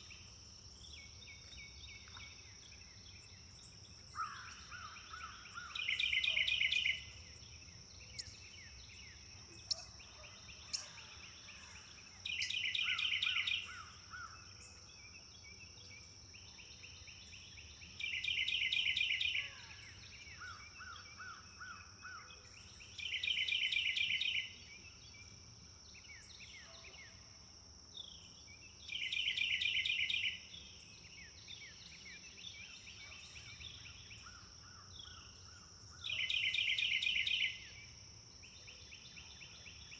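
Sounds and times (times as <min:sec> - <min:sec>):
quiet bird chirps: 0:00.0 - 0:39.9.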